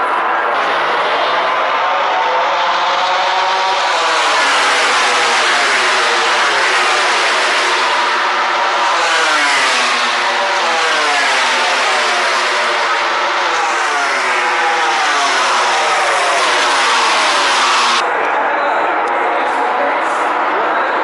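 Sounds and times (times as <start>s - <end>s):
racing motorcycles passing: 0.6s - 18.0s.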